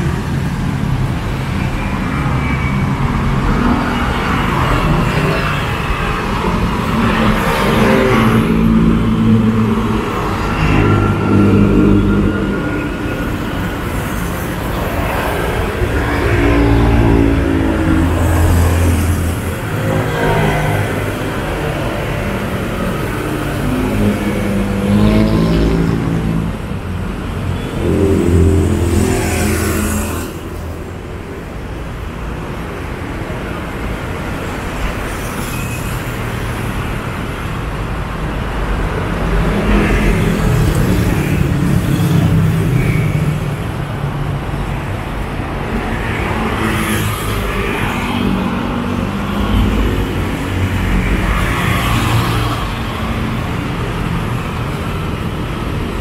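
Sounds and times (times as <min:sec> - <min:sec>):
vehicles passing close by: 0:00.0 - 0:56.0.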